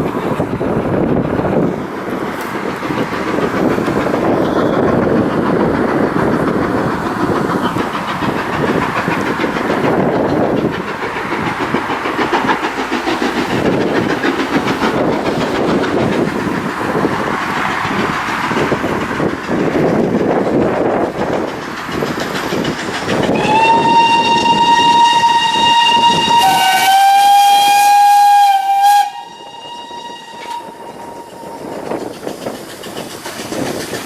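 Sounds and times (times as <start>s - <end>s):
steam train running past: 0.0s - 34.0s.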